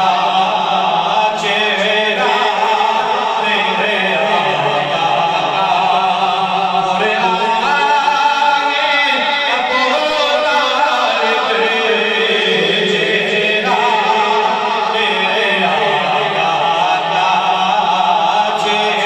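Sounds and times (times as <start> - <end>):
person chanting: 0.0 - 19.0.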